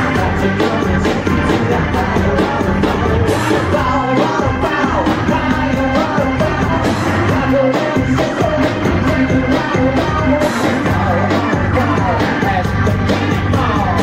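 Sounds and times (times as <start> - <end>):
man singing: 0.0 - 14.0.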